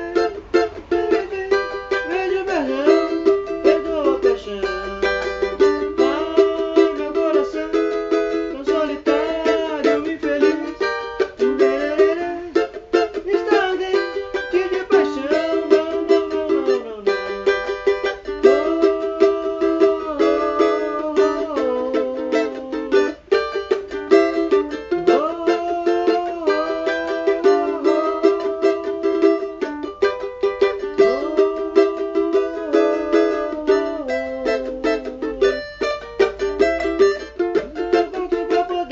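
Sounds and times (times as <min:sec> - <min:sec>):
small guitar strummed rhythmically: 0:00.0 - 0:38.9.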